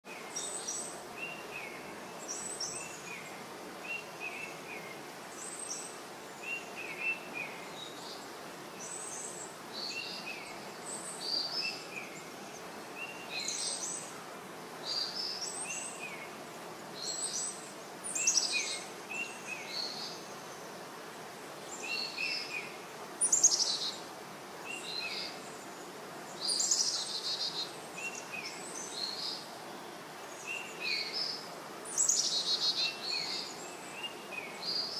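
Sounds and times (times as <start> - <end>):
small birds chirping: 0.0 - 34.9
steady background hiss: 0.0 - 34.9.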